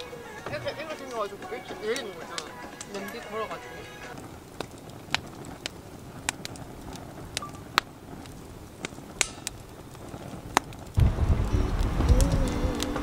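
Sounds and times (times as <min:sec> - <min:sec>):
firewood crackling and popping: 0:00.0 - 0:13.0
flames rushing: 0:00.0 - 0:13.0.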